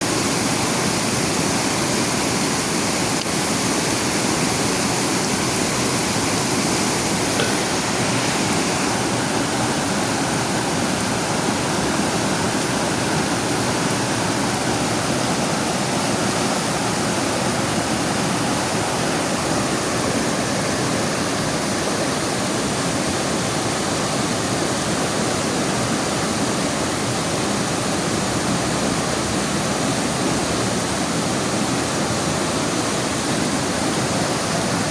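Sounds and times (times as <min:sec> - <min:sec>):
heavy rain: 0:00.0 - 0:34.9
river rushing: 0:00.0 - 0:34.9.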